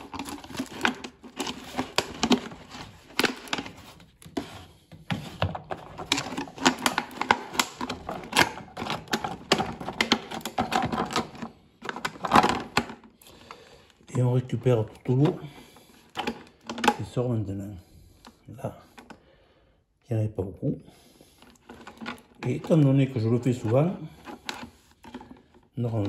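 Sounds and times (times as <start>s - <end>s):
plastic bottle clicking and crackling: 0.0s - 17.2s, 21.4s - 26.0s.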